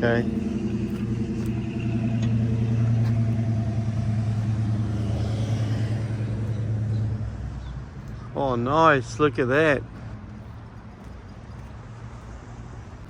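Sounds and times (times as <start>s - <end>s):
car engine humming: 0.0s - 12.9s
faint road noise: 0.0s - 13.0s.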